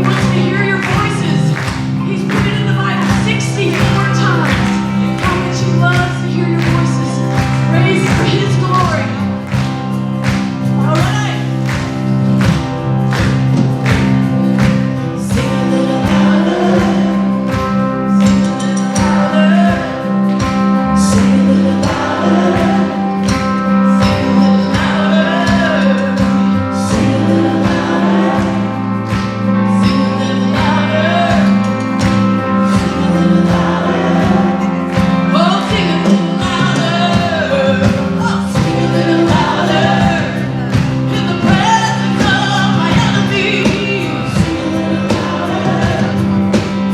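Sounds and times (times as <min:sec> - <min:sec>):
people singing: 0:00.0 - 0:46.9
steady drum beat: 0:00.0 - 0:46.9
sustained bass: 0:00.0 - 0:46.9
worship band playing: 0:00.0 - 0:46.9.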